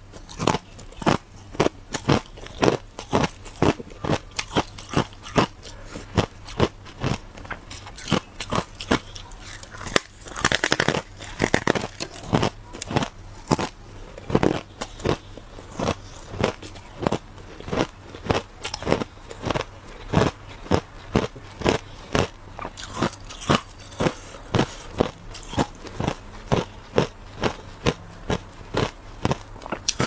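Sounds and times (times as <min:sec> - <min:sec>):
ice cracking and crunching in mouth: 0:00.2 - 0:30.0.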